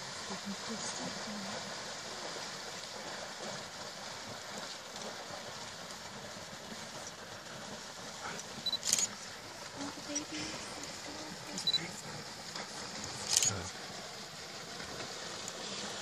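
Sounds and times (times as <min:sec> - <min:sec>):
herd splashing through water: 0:00.0 - 0:16.0.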